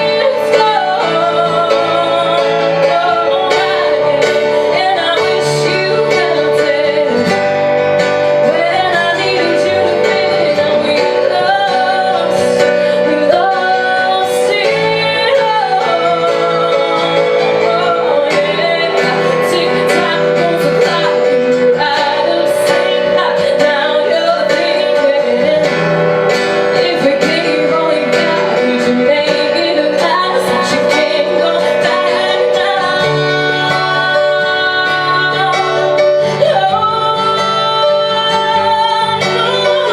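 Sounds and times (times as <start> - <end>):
guitar: 0.0 - 39.9
woman singing: 0.0 - 39.9.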